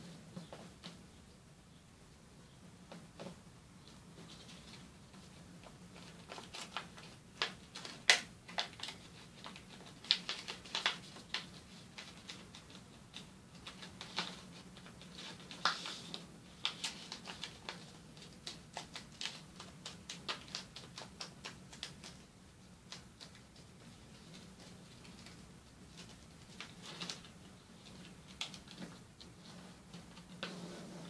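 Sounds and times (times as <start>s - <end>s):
paper crackling as it is folded: 4.2s - 31.0s.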